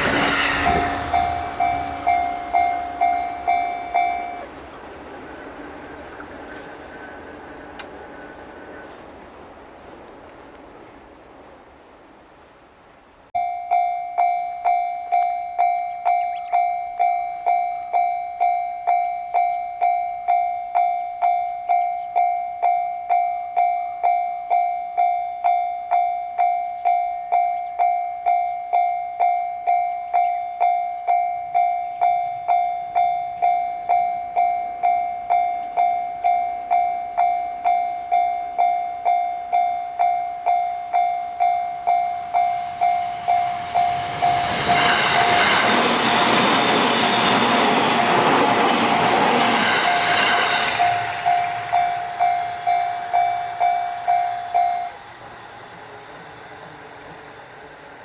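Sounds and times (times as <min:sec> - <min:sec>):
railroad crossing bell: 0:00.0 - 0:10.5, 0:13.4 - 0:58.0.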